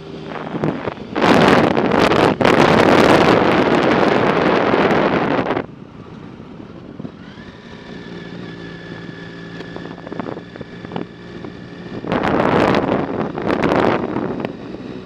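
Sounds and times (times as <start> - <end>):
vehicle engine hum: 0.0 - 15.0
wind buffeting microphone: 0.1 - 15.0.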